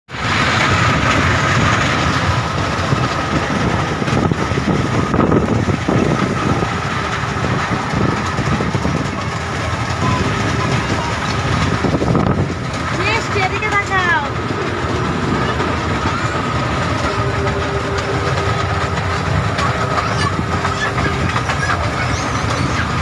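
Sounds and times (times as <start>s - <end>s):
ride train running noise: 0.1s - 23.0s.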